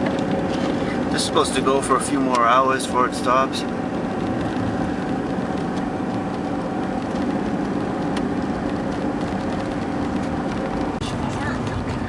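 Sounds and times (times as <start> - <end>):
engine and road noise drone: 0.0 - 12.0.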